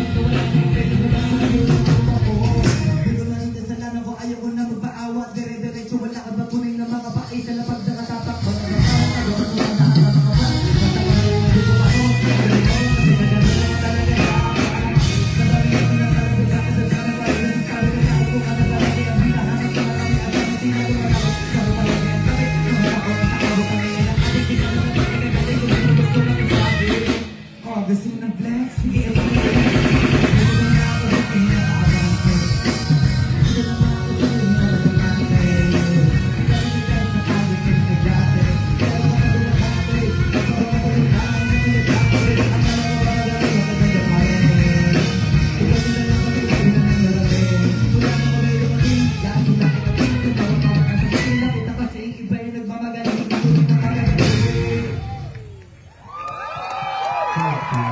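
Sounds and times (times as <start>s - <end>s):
person rapping into a microphone: 0.0s - 54.9s
backing track with heavy beat: 0.0s - 57.9s.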